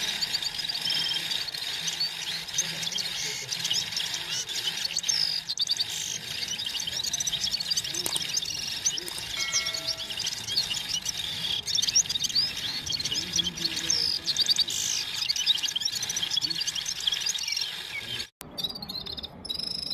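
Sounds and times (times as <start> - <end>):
bird twittering song: 0.0 - 19.9.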